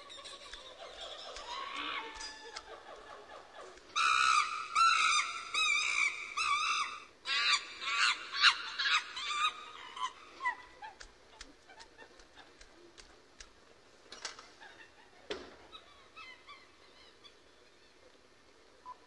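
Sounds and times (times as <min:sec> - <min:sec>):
chimpanzees calling: 0:00.0 - 0:13.1, 0:14.4 - 0:19.0.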